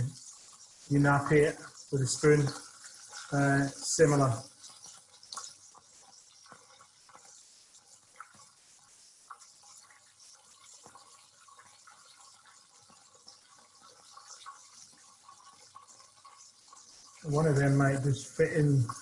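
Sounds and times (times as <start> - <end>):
chicken frying in oil: 0.0 - 19.0
oil crackling and popping: 0.0 - 19.0.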